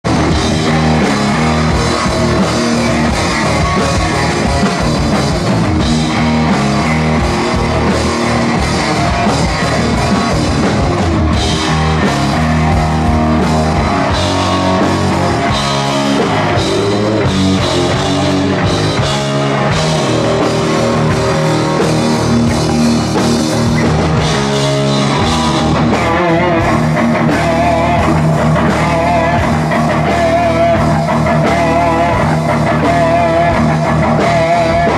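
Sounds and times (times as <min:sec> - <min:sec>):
bass guitar: 0:00.0 - 0:34.9
drum kit: 0:00.0 - 0:34.9
electric guitars: 0:00.0 - 0:34.9.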